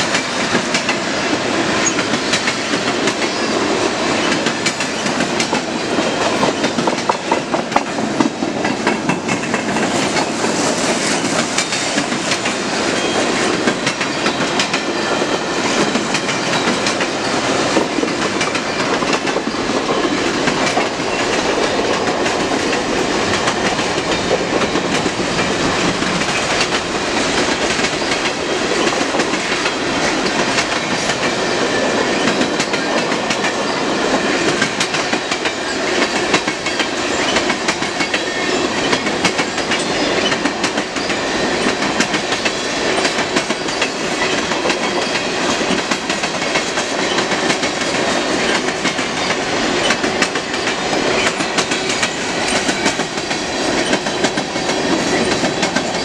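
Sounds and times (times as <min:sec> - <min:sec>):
freight train wheels rattling: 0:00.0 - 0:56.0.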